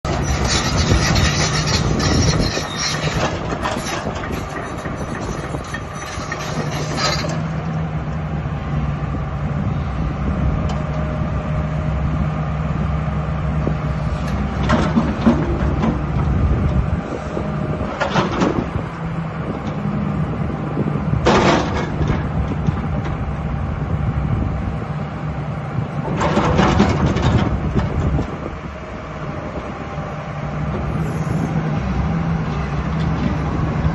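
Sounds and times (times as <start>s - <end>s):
excavator diesel engine humming: 0.0s - 33.9s.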